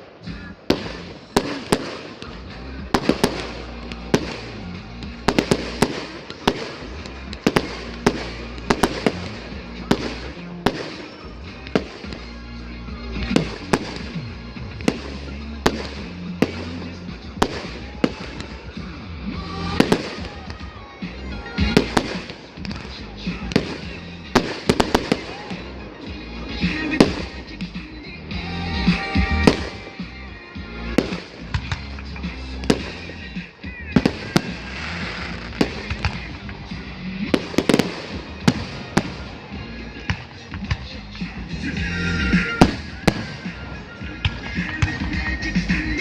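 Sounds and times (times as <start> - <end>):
fireworks bursting: 0.0 - 46.0
music from loudspeakers: 0.0 - 46.0.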